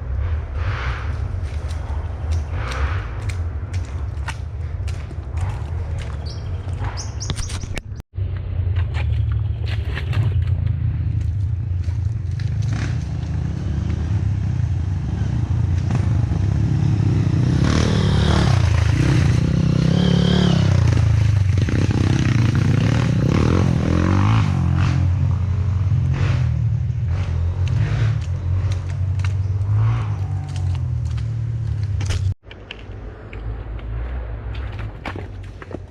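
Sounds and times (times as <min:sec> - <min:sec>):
motorcycle engines revving: 0:00.0 - 0:07.3, 0:09.4 - 0:32.4.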